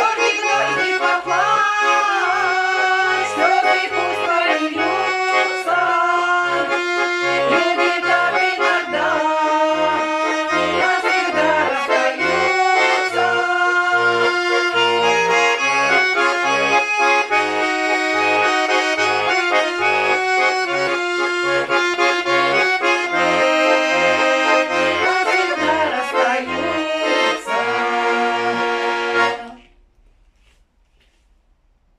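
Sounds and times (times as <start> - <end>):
accordion playing folk tune: 0.0 - 29.8.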